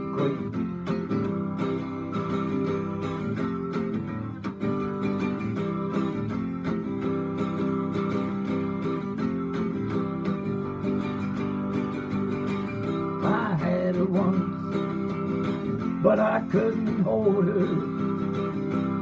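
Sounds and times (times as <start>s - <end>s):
guitar chords strummed: 0.0s - 19.0s.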